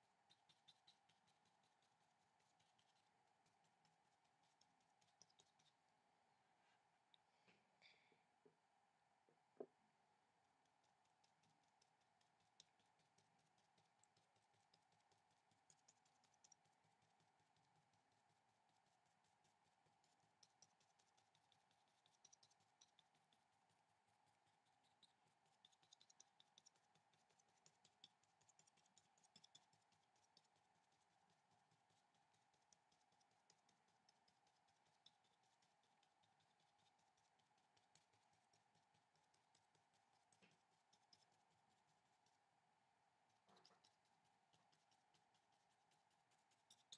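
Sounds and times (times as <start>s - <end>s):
faint steady hum: 0.0s - 46.9s.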